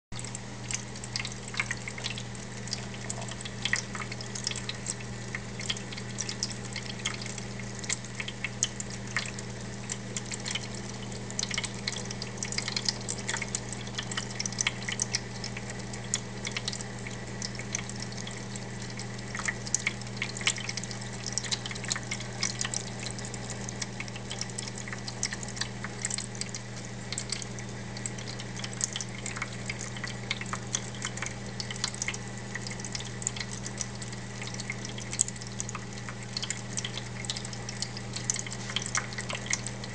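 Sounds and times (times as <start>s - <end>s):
pump humming: 0.1s - 39.9s
cat lapping water: 0.2s - 39.9s
water trickling into bowl: 0.2s - 39.9s.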